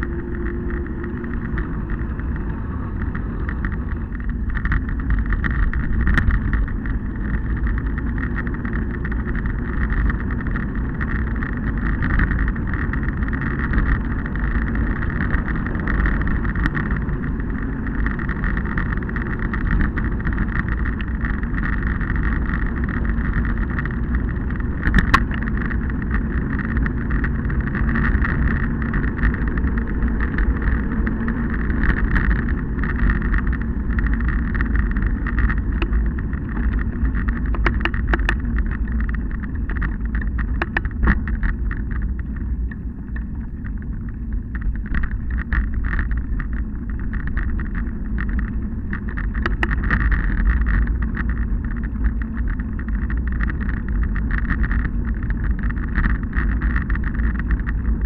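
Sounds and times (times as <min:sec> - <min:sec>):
wind and road rush: 0:00.0 - 0:58.0.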